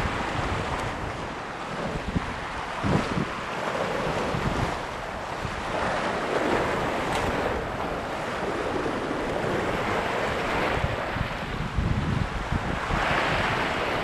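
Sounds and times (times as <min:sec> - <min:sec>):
sea surf washing ashore: 0:00.0 - 0:14.0
wind on microphone: 0:00.0 - 0:14.0.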